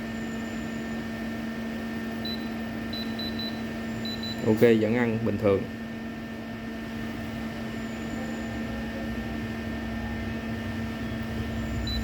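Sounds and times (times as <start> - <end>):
steady machine hum with hiss: 0.0 - 12.0.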